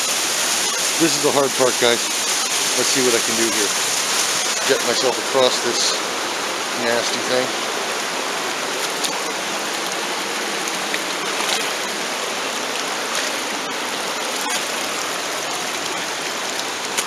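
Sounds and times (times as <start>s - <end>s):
creek water rushing: 0.0s - 17.0s
faint water splashes: 0.0s - 17.0s.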